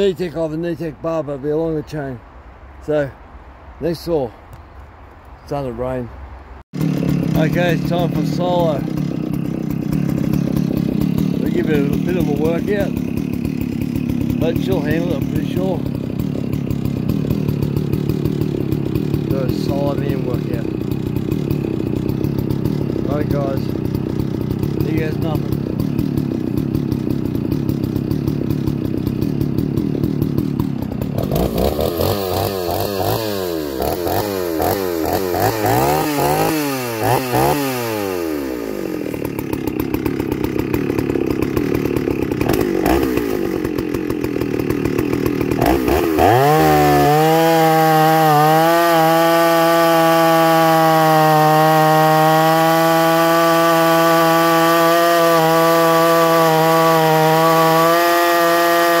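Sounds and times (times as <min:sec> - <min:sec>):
chainsaw cutting into log: 0:06.7 - 0:59.0
chainsaw revving: 0:06.7 - 0:59.0.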